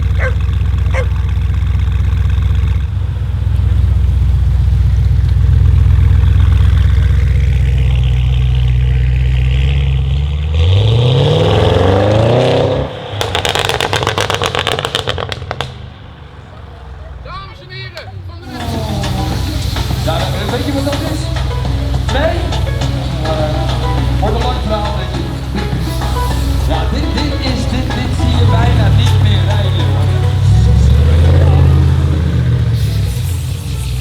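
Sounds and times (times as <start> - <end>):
car engine rumbling and revving: 0.0 - 34.0
exhaust crackles and pops: 0.0 - 34.0.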